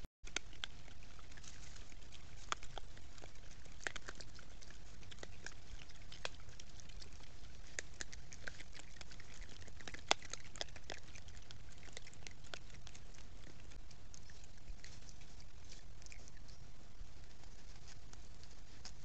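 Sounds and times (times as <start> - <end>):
animals crunching corn and leaves: 0.2 - 19.0
steady low hum: 0.3 - 19.0.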